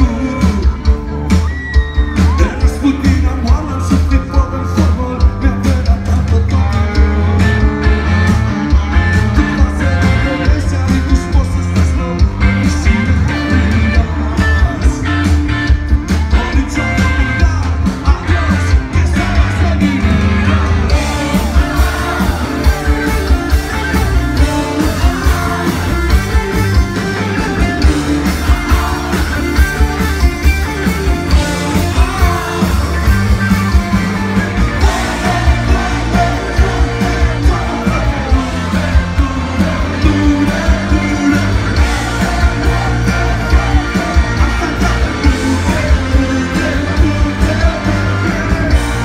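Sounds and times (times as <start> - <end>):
lead singer singing: 0.0 - 49.0
rock band playing live: 0.0 - 49.0.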